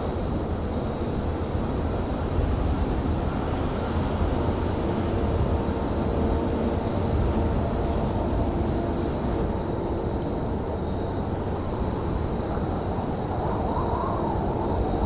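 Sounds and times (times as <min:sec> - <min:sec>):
low rumble of railyard machinery: 0:00.0 - 0:15.0.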